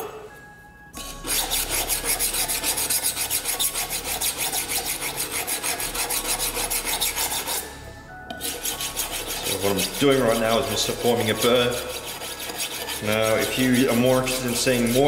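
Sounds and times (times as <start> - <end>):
knife scraping on sharpening stone: 1.0 - 7.7, 8.3 - 15.0.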